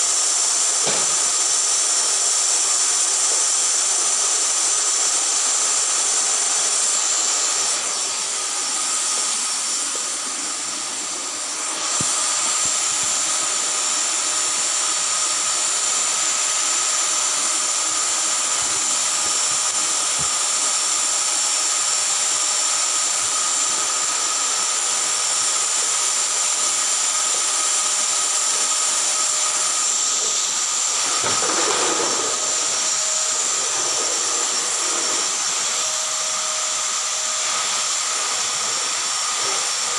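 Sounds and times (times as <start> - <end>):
electric blower running: 0.0 - 39.9.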